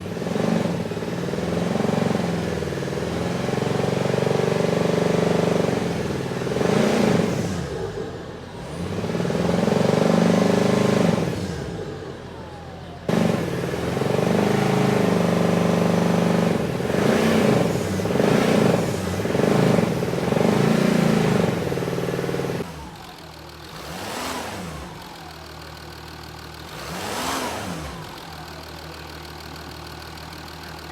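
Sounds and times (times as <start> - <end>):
rough diesel engine revving: 0.0 - 30.9.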